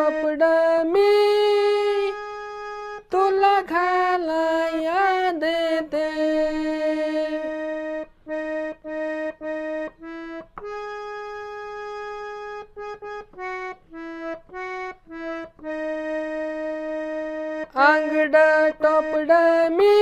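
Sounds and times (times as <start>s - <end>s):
harmonium melody: 0.0s - 20.0s.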